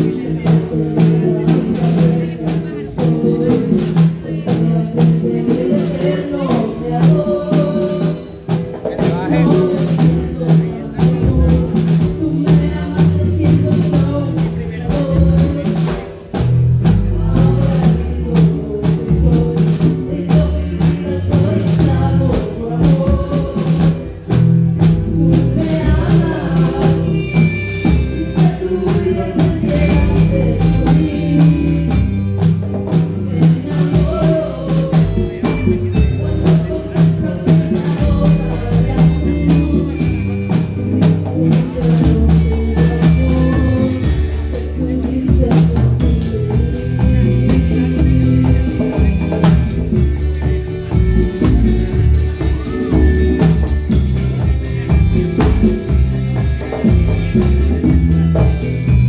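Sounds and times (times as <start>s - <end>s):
bass line: 0.0s - 59.0s
congas: 0.0s - 59.0s
drum kit: 0.0s - 59.0s
electric guitar: 0.0s - 59.0s
live band playing: 0.0s - 59.0s.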